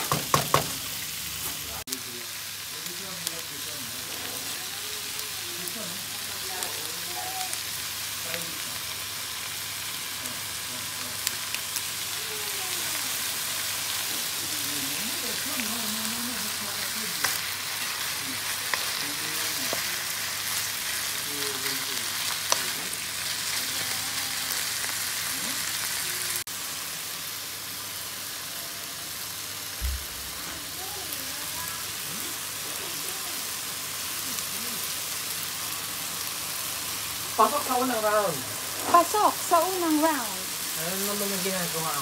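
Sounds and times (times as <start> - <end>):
food sizzling in a wok: 0.0 - 42.0.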